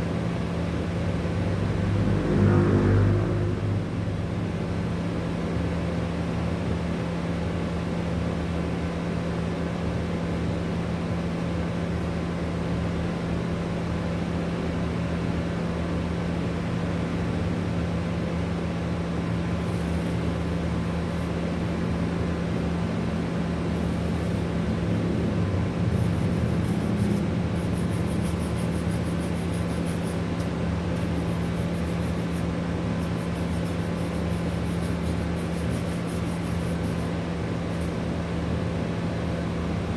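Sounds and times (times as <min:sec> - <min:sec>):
mechanical hum: 0:00.0 - 0:39.9.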